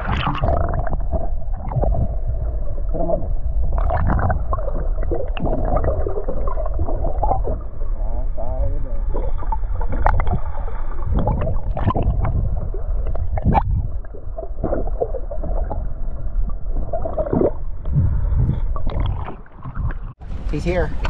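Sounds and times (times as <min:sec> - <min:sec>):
underwater gurgling and sloshing: 0:00.0 - 0:20.5.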